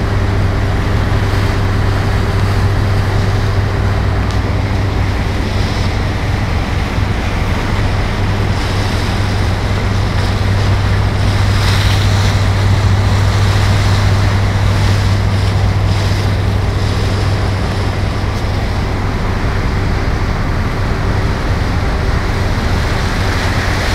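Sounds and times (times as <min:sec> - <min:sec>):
boat engine drone: 0:00.0 - 0:23.9
sea waves breaking around boat: 0:00.0 - 0:23.9
wind buffeting microphone: 0:00.0 - 0:23.9.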